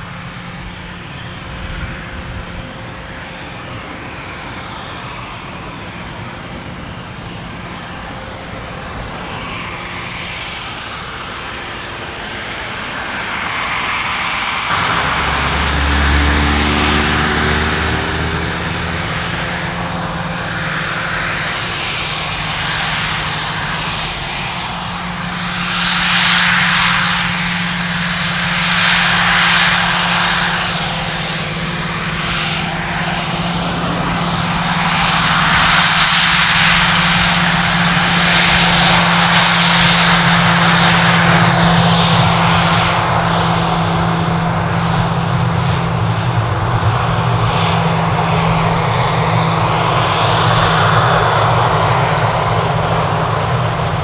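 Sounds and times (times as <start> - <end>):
aircraft engines droning: 0.0 - 54.0.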